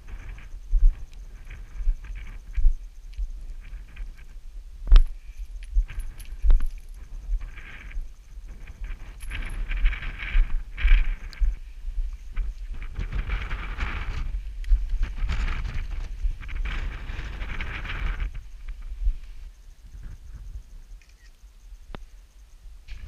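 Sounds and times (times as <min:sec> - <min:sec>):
wind buffeting microphone: 0:00.0 - 0:21.2.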